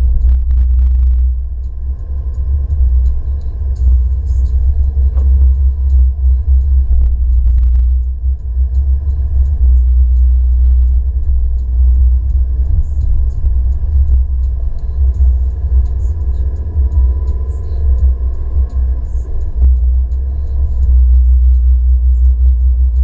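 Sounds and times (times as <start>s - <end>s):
car interior road and engine rumble: 0.0s - 23.0s.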